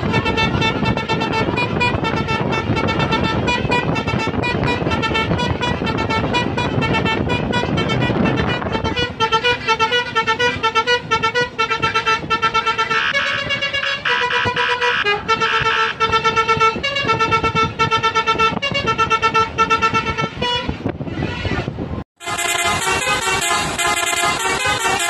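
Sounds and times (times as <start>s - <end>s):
musical truck air horn: 0.0s - 21.0s, 22.2s - 25.0s
moving truck running noise: 0.0s - 25.0s.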